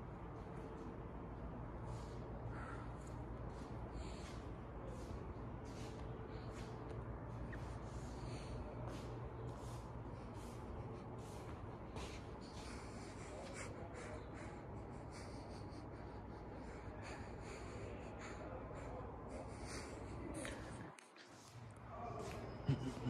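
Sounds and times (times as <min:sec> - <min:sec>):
ceiling fan motor hum: 0:00.0 - 0:23.0
soft rhythmic fan sound: 0:00.0 - 0:23.0.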